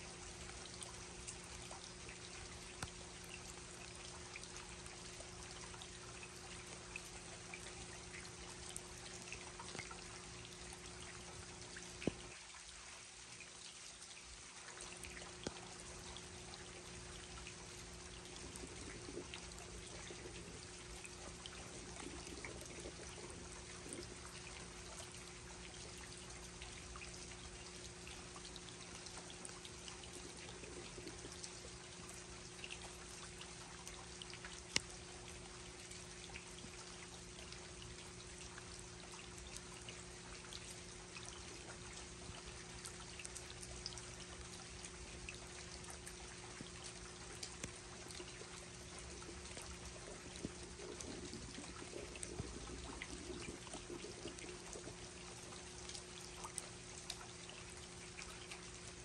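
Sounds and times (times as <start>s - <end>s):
faint steady hum: 0.0s - 59.0s
trickling water: 0.0s - 59.0s
water dripping: 0.0s - 59.0s.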